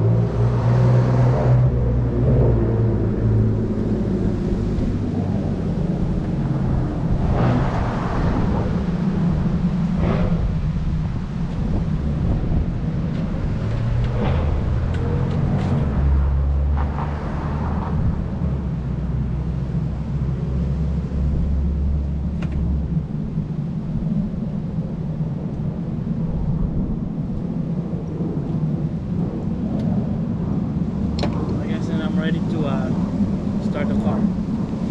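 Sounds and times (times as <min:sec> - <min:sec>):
deep steady hum: 0:00.0 - 0:34.9
low rumble: 0:00.0 - 0:34.9.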